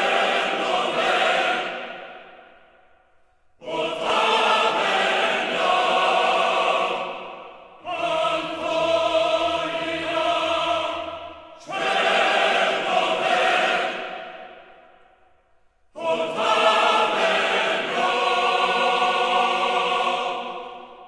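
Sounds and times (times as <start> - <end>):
choir singing sustained chords: 0.0 - 21.0.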